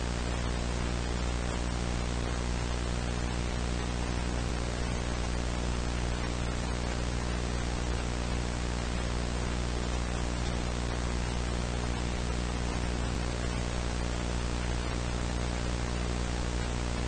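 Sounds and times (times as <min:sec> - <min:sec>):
low electrical hum: 0:00.0 - 0:17.0
static hiss: 0:00.0 - 0:17.0.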